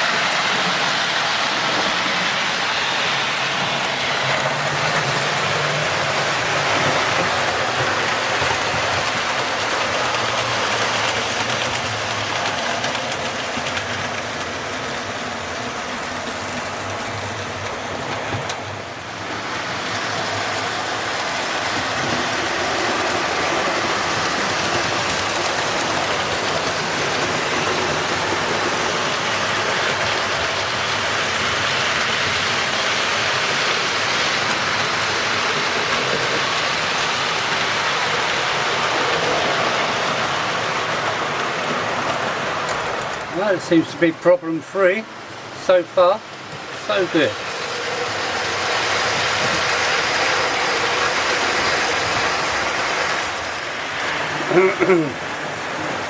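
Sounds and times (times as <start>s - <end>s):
model train wheels rumbling: 0.0s - 56.0s.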